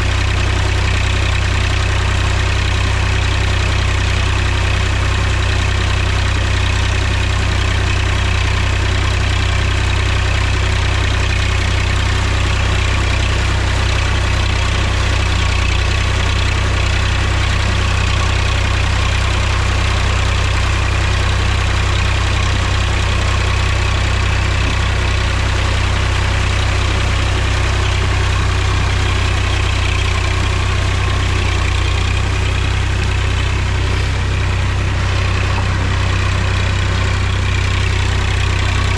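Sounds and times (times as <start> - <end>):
tractor diesel engine droning: 0.0 - 38.9.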